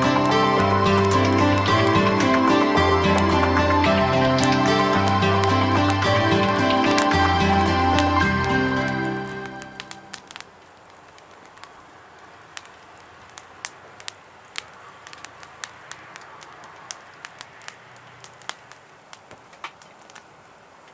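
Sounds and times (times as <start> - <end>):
wood fire crackling: 0.0 - 20.9.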